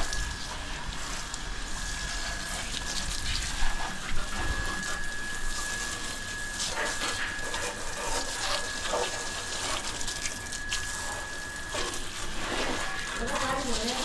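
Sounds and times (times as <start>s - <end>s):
steady high whine: 0.0s - 14.0s
water spraying and splashing: 0.0s - 14.0s.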